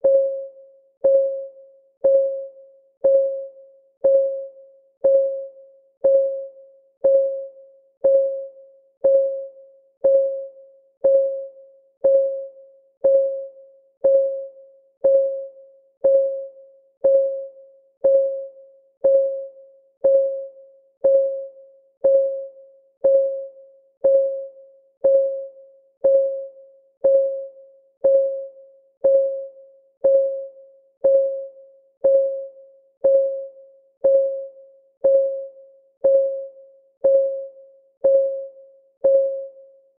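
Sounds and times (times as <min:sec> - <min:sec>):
timer ticking: 0:01.0 - 0:39.6.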